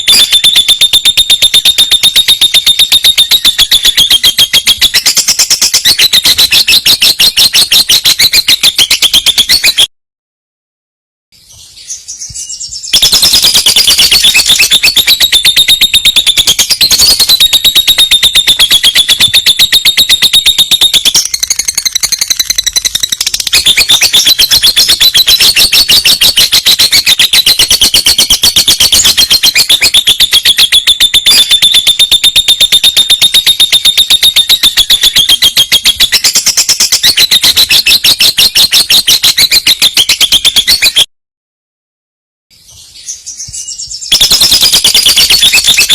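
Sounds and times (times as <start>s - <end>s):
bird trilling: 0.0s - 9.9s, 12.0s - 41.0s, 43.4s - 45.9s.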